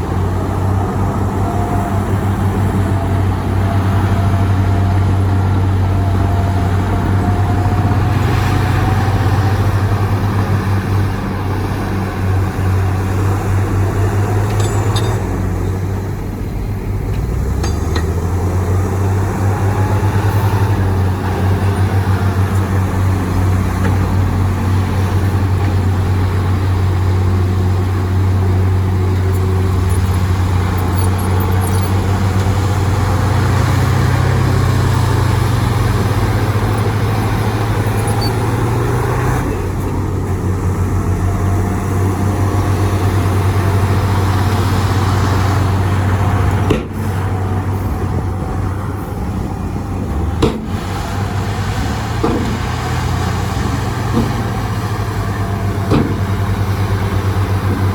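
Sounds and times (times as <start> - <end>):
heavy diesel engines droning: 0.0 - 57.9.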